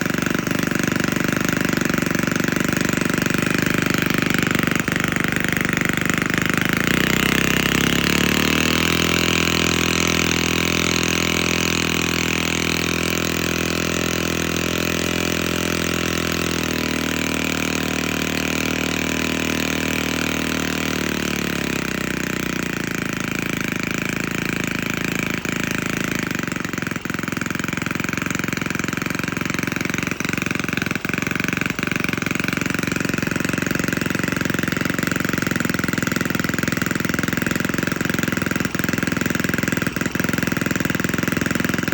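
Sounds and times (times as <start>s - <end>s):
model engine running: 0.0s - 41.9s.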